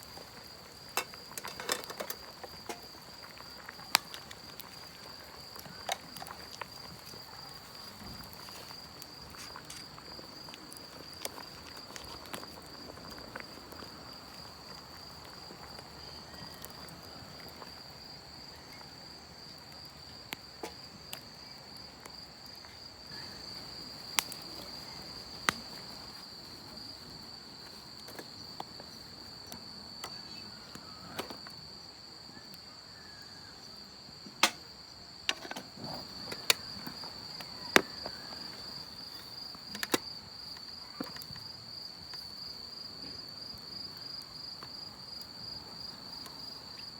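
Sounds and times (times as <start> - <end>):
insect trill: 0.0 - 46.9.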